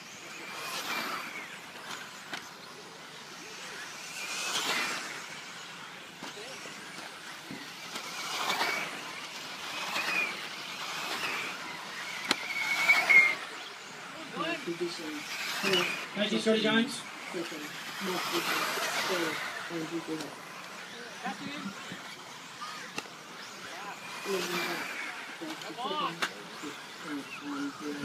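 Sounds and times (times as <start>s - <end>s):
rc car motors whining: 0.0s - 28.0s.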